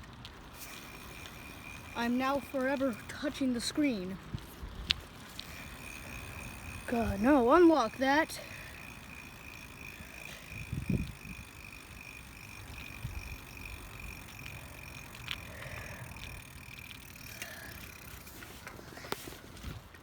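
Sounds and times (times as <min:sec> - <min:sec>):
bicycle tyres rumbling: 0:00.0 - 0:20.0.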